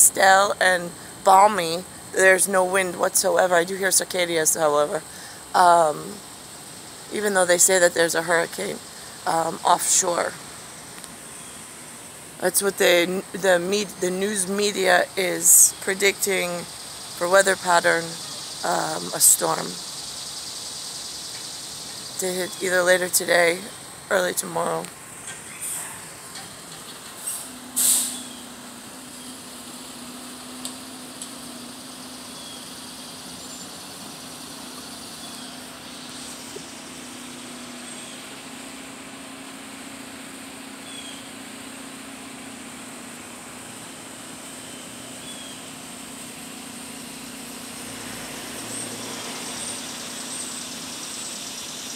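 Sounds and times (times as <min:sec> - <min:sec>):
cicadas buzzing: 0:00.0 - 0:51.9
vehicle engine idling: 0:00.0 - 0:51.9.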